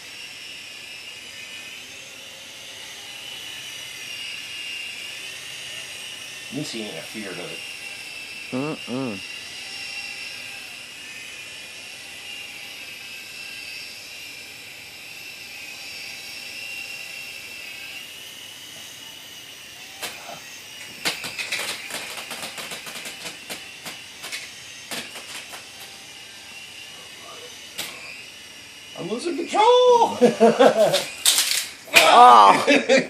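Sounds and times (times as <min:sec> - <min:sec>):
rc helicopter motor whine: 0:00.0 - 0:33.0.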